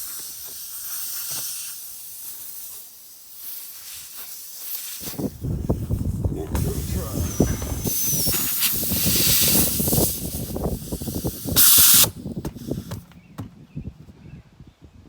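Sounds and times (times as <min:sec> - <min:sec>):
air hissing out of a tire: 0:00.0 - 0:13.2.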